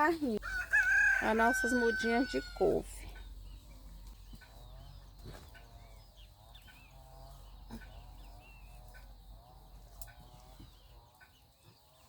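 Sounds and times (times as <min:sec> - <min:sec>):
chickens clucking: 0:00.4 - 0:12.0.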